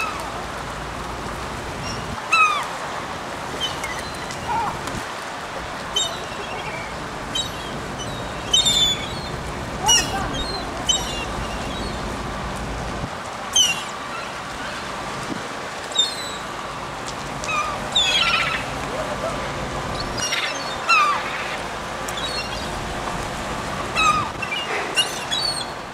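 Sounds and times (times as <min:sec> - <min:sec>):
steady background noise: 0:00.0 - 0:25.9
gulls calling: 0:01.7 - 0:12.3, 0:13.4 - 0:15.1, 0:15.8 - 0:25.9.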